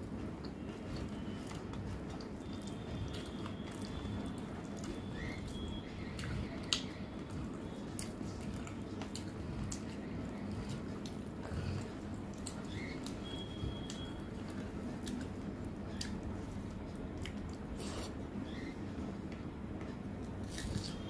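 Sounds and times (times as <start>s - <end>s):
wet squishing of fingers in food: 0.0s - 21.0s
woman chewing food: 0.0s - 21.0s.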